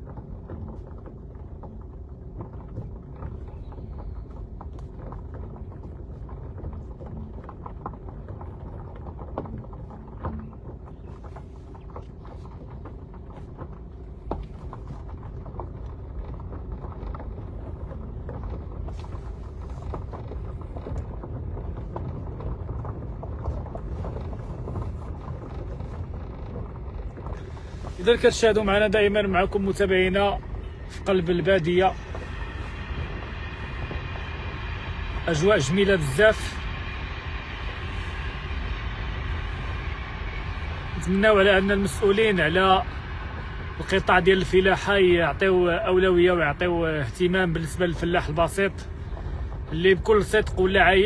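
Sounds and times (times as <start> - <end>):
car engine and road rumble: 0.0 - 51.0
gravel clicking under tyres: 0.0 - 51.0.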